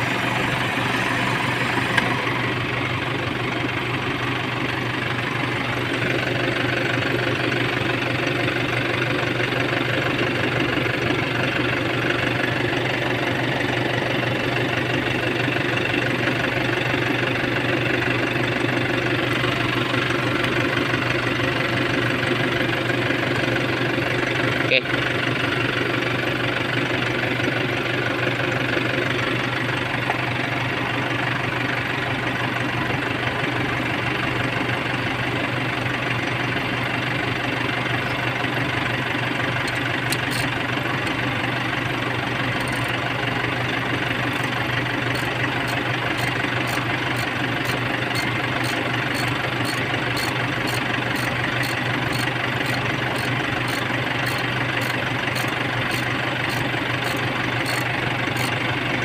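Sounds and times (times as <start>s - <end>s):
diesel engine idling: 0.0s - 59.0s
light engine ticking: 0.0s - 59.0s.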